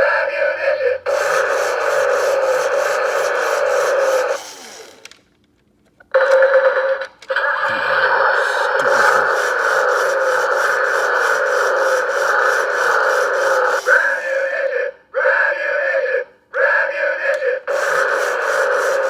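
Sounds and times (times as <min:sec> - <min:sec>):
tinny buzzing toy speaker: 0:00.0 - 0:05.2, 0:06.2 - 0:19.0.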